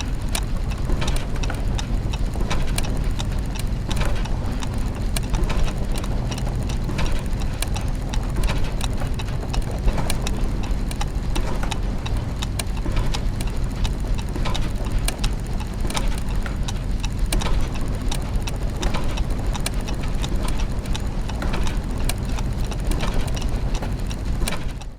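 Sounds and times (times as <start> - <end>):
clockwork gears ticking and clicking: 0.0 - 24.9
low machine hum: 0.0 - 24.9.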